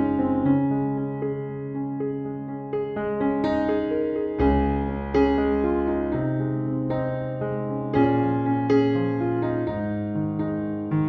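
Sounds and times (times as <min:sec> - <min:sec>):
electric piano notes: 0:00.0 - 0:11.0.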